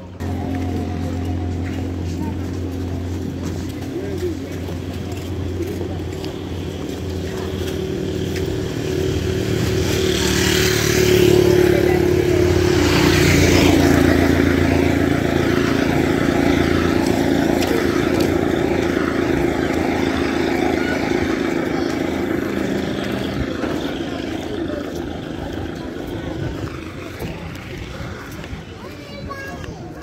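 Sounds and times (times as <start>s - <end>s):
motorcycle passing by: 0.2s - 28.8s.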